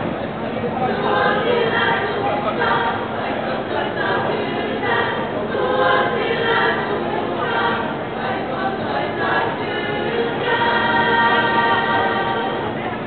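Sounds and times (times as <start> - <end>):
female choir singing: 0.8 - 13.0.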